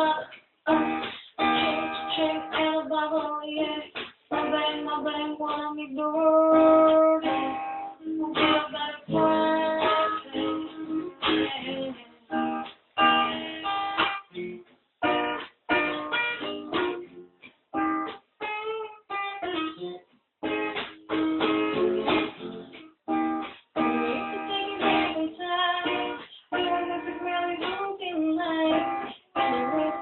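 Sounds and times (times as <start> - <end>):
guitar playing chords: 0.0 - 30.0.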